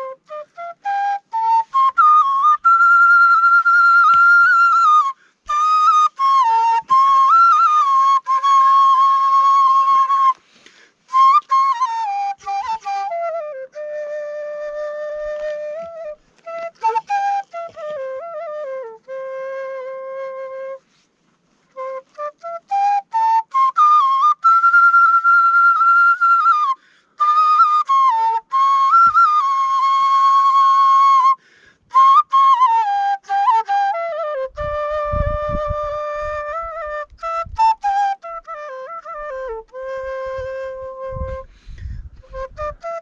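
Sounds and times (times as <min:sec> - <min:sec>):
bamboo flute melody: 0:00.0 - 0:43.0.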